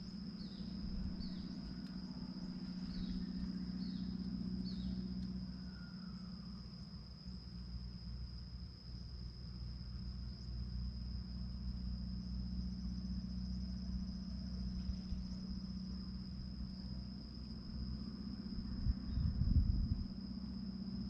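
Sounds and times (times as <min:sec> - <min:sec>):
cricket droning: 0:00.0 - 0:21.0
low constant rumble: 0:00.0 - 0:21.0.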